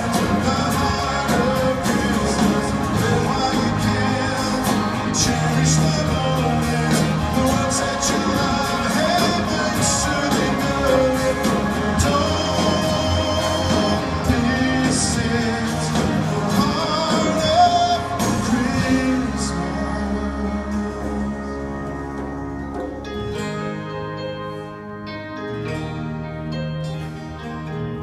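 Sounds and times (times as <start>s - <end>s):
person singing: 0.0s - 23.5s
band playing pop ballad: 0.0s - 28.0s.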